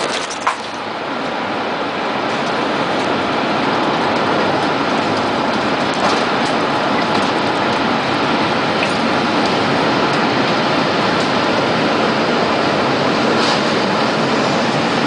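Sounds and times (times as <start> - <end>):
tornado winds rushing: 0.0 - 15.0.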